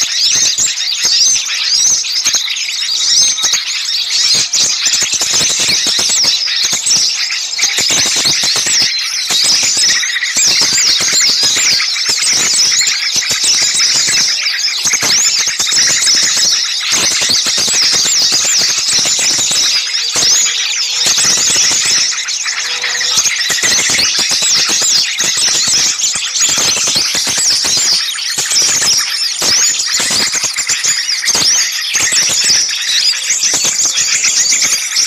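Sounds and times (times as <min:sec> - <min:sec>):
songbirds chirping chorus: 0:00.0 - 0:35.0.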